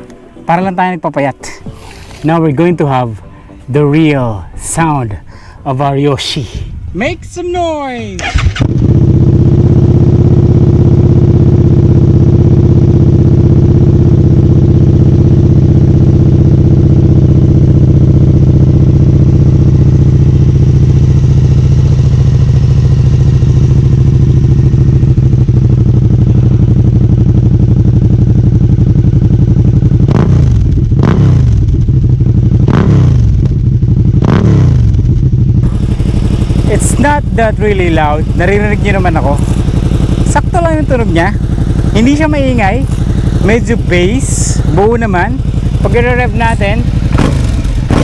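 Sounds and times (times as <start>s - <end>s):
motorcycle engine idling: 8.2s - 48.0s
motorcycle throttle revs: 8.2s - 48.0s.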